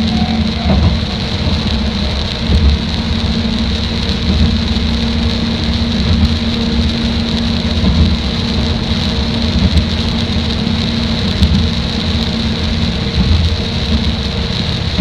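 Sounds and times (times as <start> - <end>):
railcar engine drone: 0.0 - 15.0
wheels rumbling on rail: 0.0 - 15.0.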